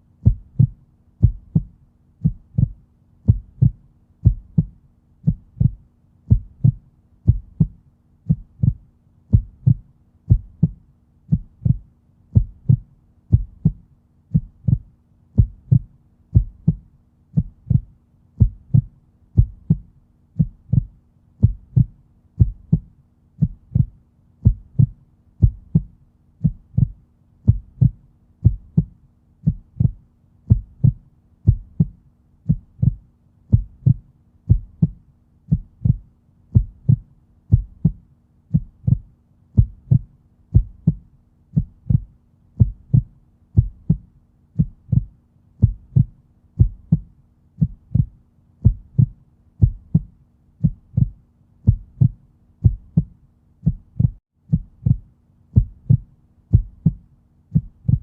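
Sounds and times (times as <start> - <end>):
heartbeat thumps: 0.2 - 58.0.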